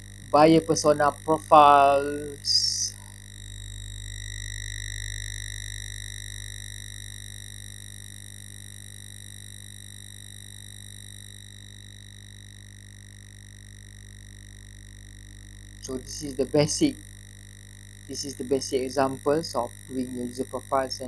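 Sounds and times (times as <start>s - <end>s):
high-pitched electronic whine: 0.0s - 21.0s
low electrical hum: 0.0s - 21.0s.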